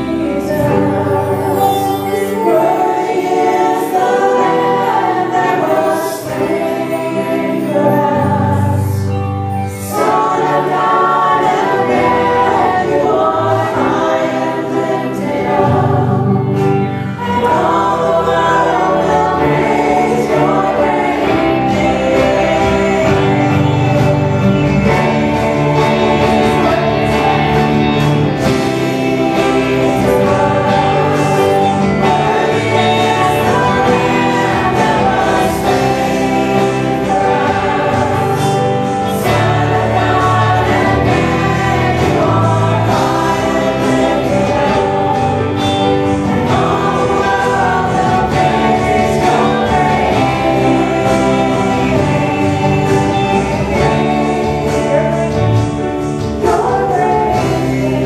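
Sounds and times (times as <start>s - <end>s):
group singing worship song: 0.0s - 58.0s
instrumental accompaniment: 0.0s - 58.0s.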